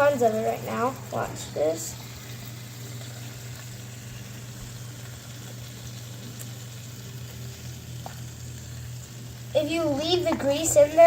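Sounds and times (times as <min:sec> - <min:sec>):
grease trickling and sizzling: 0:00.0 - 0:11.0
low steady hum: 0:00.0 - 0:11.0.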